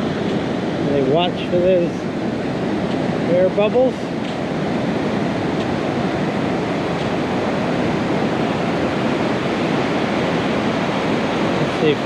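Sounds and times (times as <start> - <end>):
waves washing on a beach: 0.0 - 12.0.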